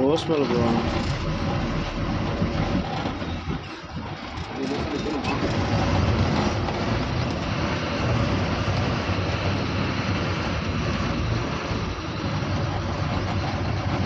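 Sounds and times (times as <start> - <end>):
diesel lorry engine running: 0.0 - 14.0.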